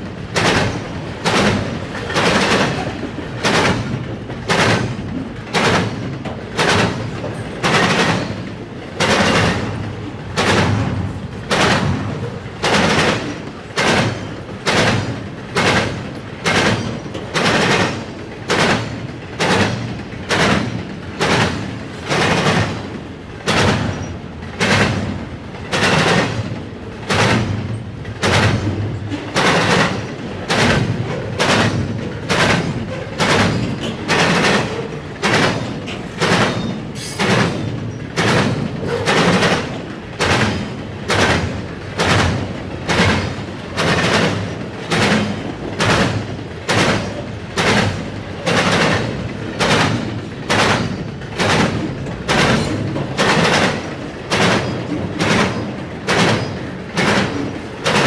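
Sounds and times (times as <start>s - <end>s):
rumble of train cars: 0.0s - 58.0s
train wheels clanking over crossing: 0.0s - 58.0s.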